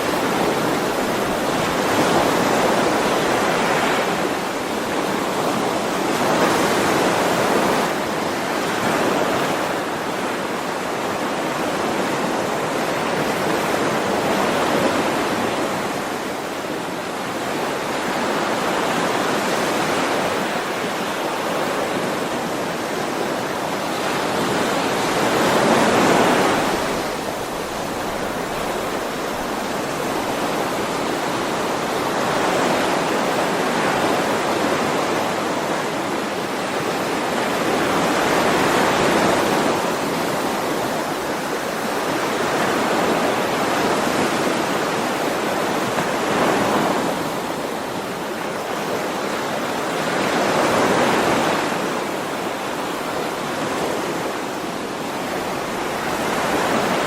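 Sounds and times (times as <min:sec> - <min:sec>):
ocean waves washing ashore: 0:00.0 - 0:57.0.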